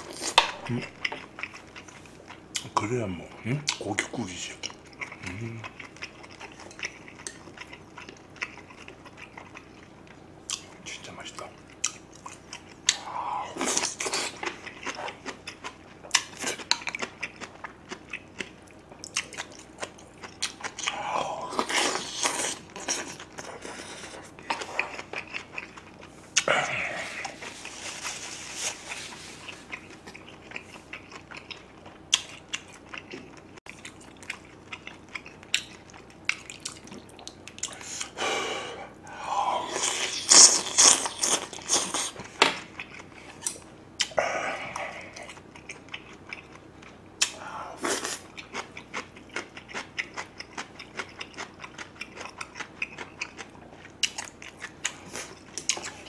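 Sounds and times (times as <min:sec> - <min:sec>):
crunchy chewing: 0:03.7 - 0:38.2, 0:39.4 - 0:56.0.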